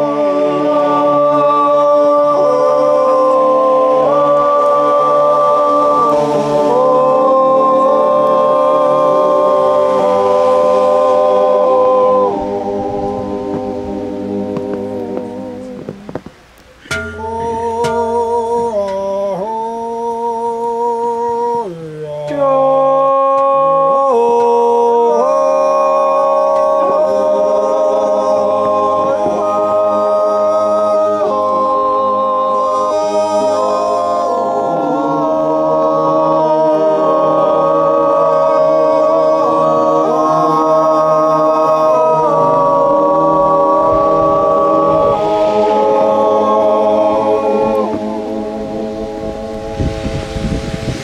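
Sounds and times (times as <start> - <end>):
wordless yodel in several voices: 0.0 - 16.1, 16.9 - 50.3.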